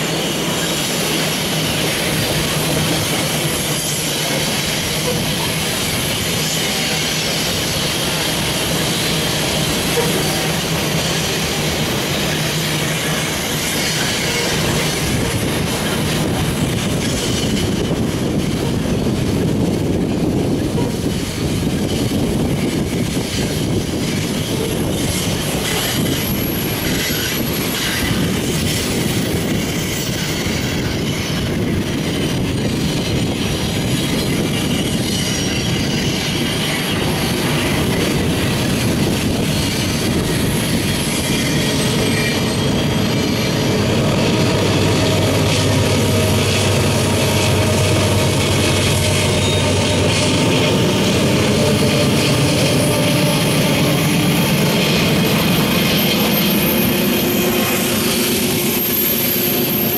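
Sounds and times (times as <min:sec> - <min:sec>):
freight train rolling: 0:00.0 - 0:59.9
steel wheels squealing: 0:00.0 - 0:59.9.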